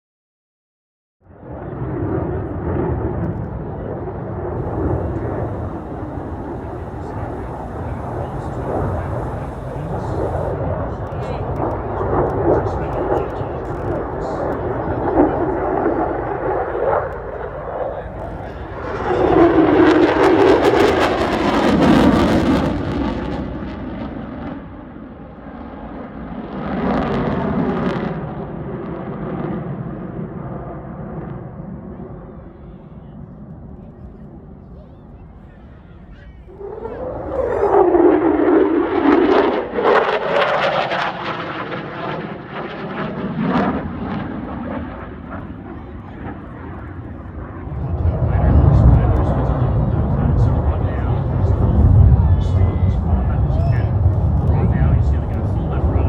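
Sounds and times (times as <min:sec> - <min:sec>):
jet passing overhead: 0:01.3 - 0:56.0.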